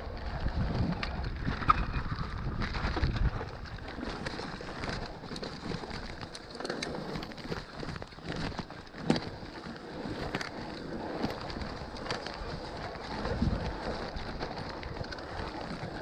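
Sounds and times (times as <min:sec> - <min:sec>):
bike clicks and rattles: 0:00.0 - 0:16.0
bike tyres rolling on gravel: 0:00.0 - 0:16.0.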